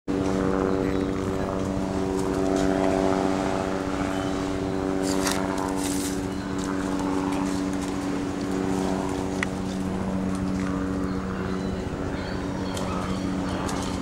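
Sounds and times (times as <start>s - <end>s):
steady motor hum: 0.1s - 14.0s.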